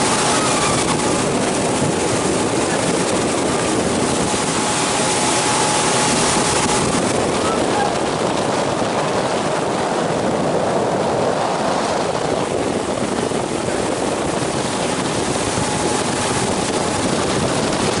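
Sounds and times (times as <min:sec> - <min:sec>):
motorboat engine: 0:00.0 - 0:18.0
water rushing along hull: 0:00.0 - 0:18.0.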